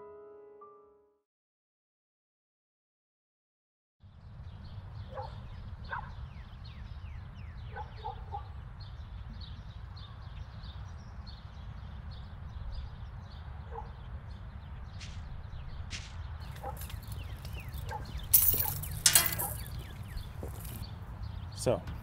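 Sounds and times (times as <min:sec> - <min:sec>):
small birds chirping: 0:04.1 - 0:22.0.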